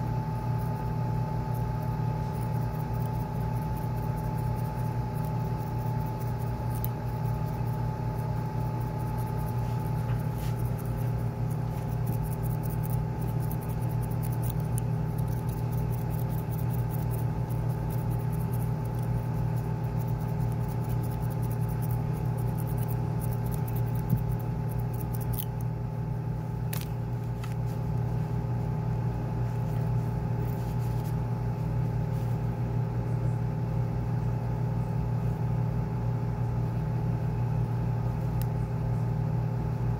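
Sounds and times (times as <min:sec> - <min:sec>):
low machine hum with tones: 0:00.0 - 0:39.9.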